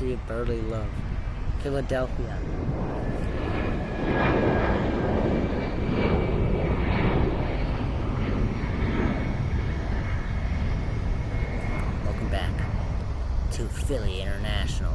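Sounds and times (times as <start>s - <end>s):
jet engines rushing: 0.0s - 14.9s.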